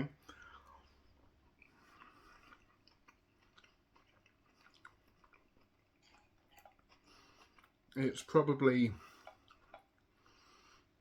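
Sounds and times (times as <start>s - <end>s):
faint chewing and mouth sounds: 0.0s - 11.0s.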